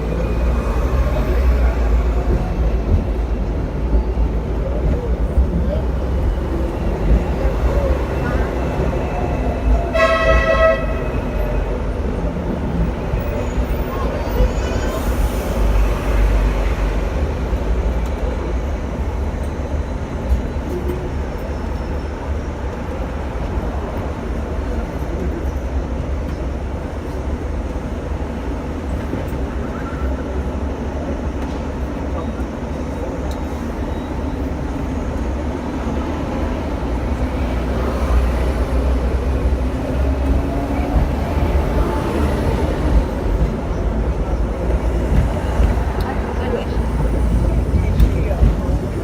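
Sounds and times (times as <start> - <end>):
tram clatter: 0.0 - 49.0
tram rumbling on rails: 0.0 - 49.0.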